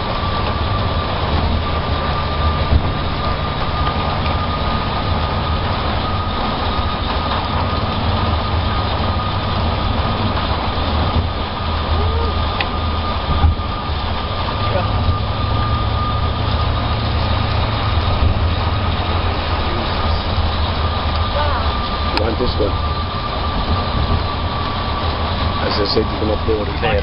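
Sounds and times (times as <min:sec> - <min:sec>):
car road rumble: 0:00.0 - 0:27.0
thin steady whine: 0:00.0 - 0:27.0.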